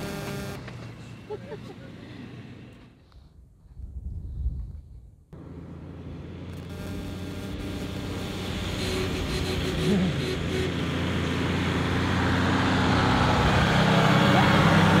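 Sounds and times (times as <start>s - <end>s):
vehicle engine running: 0.0s - 3.2s, 5.4s - 15.0s.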